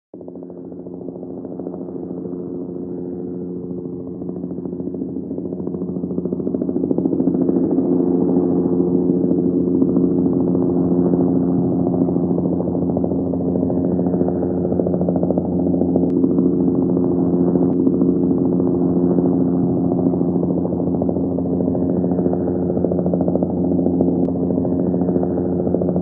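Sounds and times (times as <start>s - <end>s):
distant helicopter rotor chop: 0.2s - 26.0s.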